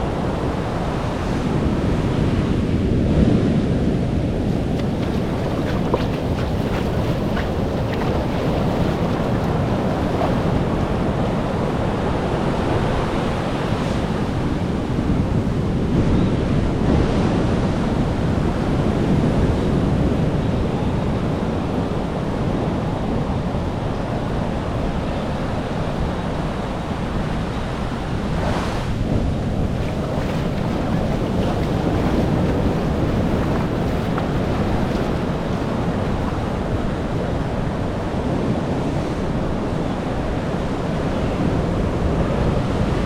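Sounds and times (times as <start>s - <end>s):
ocean surf washing onto beach: 0.0s - 15.8s, 21.0s - 43.0s
wind buffeting microphone: 0.0s - 43.0s.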